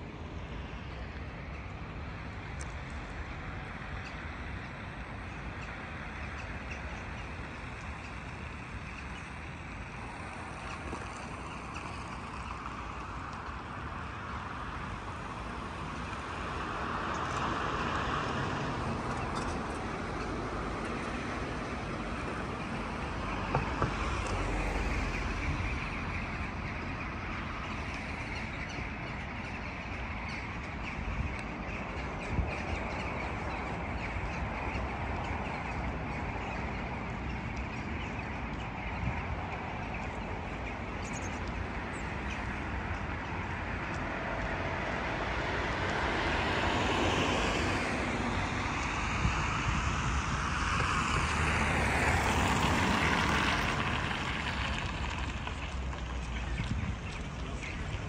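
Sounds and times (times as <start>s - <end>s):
road traffic noise: 0.0s - 58.0s
flock of birds calling: 3.6s - 14.2s, 19.0s - 58.0s.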